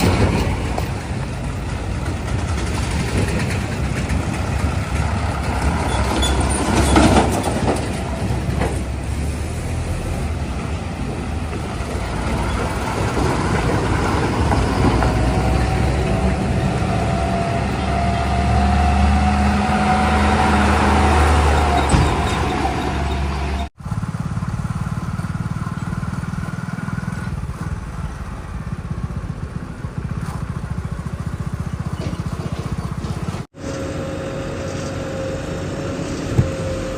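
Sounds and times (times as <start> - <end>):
heavy diesel engines running: 0.0 - 36.9.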